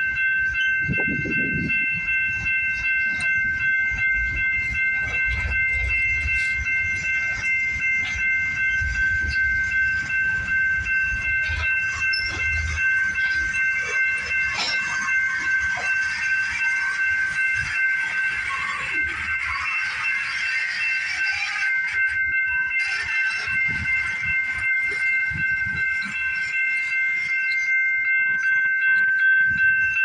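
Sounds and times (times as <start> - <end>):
rail cars rumbling: 0.0 - 28.5
steady high-pitched tone: 0.0 - 30.0.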